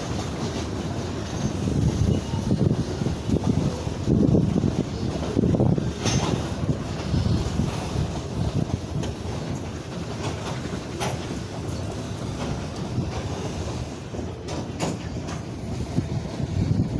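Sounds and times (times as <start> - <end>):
wheels and couplings clanking: 0.0 - 16.7
freight wagons rumbling on track: 0.0 - 16.9
wind buffeting microphone: 0.0 - 16.9.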